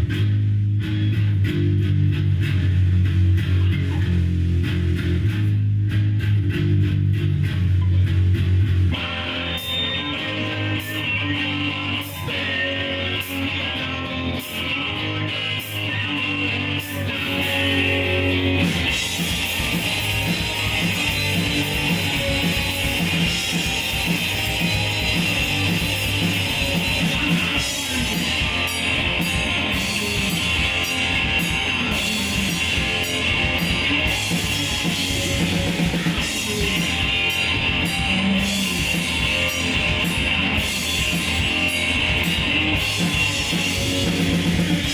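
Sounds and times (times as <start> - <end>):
bass guitar: 0.0 - 44.9
drums: 0.0 - 44.9
electric guitar: 0.0 - 44.9.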